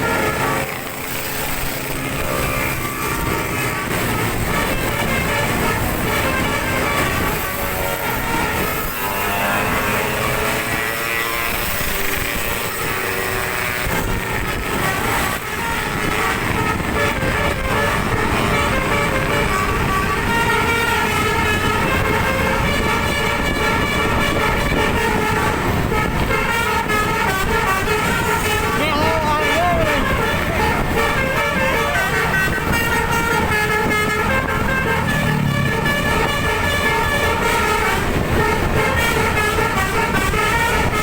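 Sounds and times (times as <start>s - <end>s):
multi-tone bus horn melody: 0.0s - 41.0s
vehicle noise: 0.0s - 41.0s.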